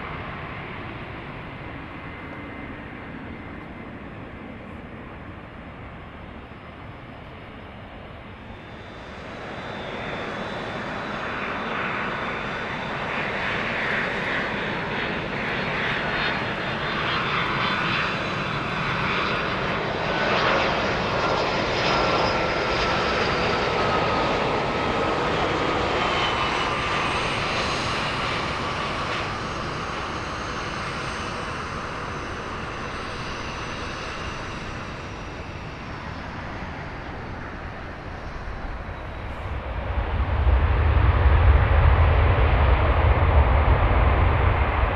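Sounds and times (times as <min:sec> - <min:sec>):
jet engine roar flying past: 0:00.0 - 0:44.9.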